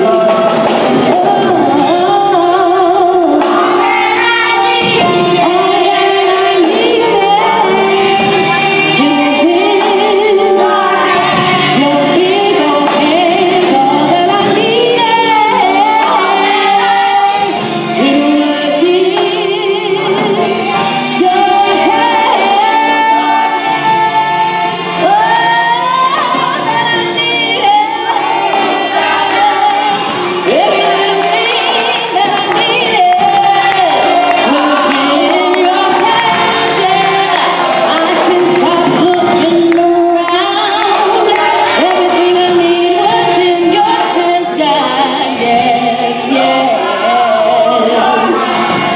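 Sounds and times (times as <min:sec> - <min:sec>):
woman singing gospel through pa: 0:00.0 - 0:48.9.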